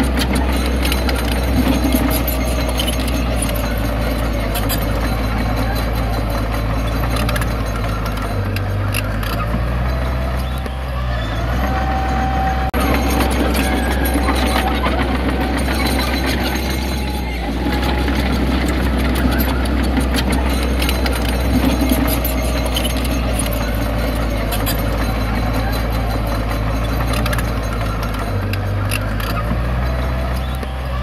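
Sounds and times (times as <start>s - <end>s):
metal and rock clanking: 0.0s - 10.8s, 12.6s - 31.0s
diesel machinery running: 0.0s - 31.0s.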